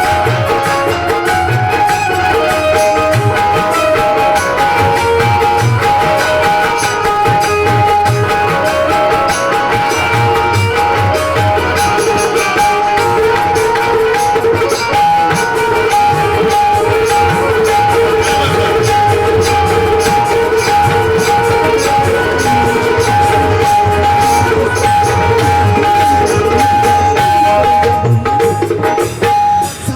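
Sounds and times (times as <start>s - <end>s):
held tones: 0.0s - 29.7s
drums and hand percussion: 0.0s - 29.9s
plucked string instrument: 0.0s - 29.9s.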